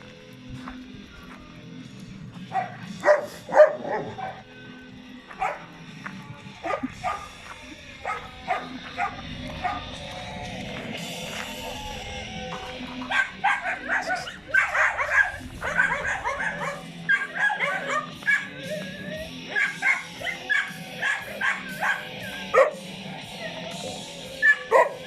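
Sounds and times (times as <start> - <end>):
steady background tone: 0.0 - 25.0
dogs barking and yipping: 2.4 - 25.0.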